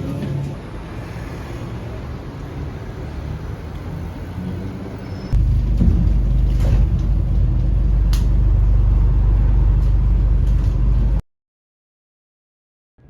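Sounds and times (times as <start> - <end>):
moving vehicle rumble: 0.0 - 11.2.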